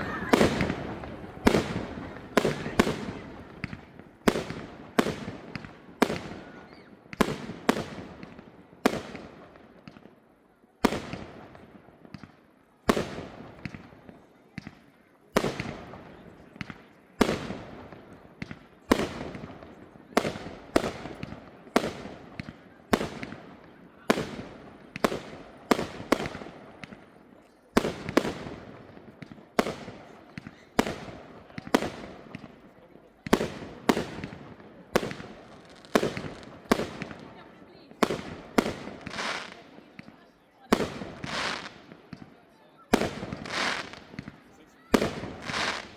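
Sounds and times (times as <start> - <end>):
firework bangs echoing: 0.0 - 10.1, 10.8 - 12.3, 12.9 - 13.9, 14.6 - 27.2, 27.8 - 40.1, 40.7 - 42.3, 42.9 - 45.9.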